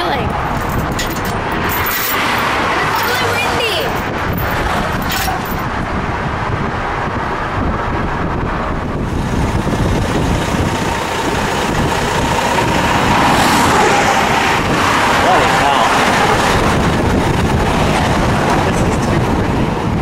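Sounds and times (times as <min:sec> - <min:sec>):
heavy trucks passing: 0:00.0 - 0:20.0
highway traffic rumble: 0:00.0 - 0:20.0.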